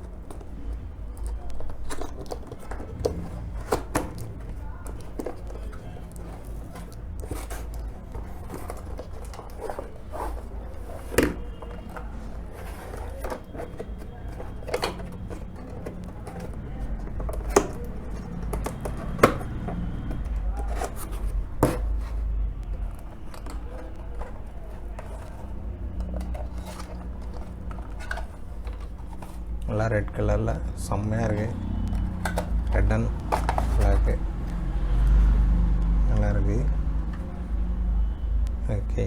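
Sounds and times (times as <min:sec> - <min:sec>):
packaging knocks and clicks: 0:00.0 - 0:35.2
low rumbling handling noise: 0:00.0 - 0:39.0.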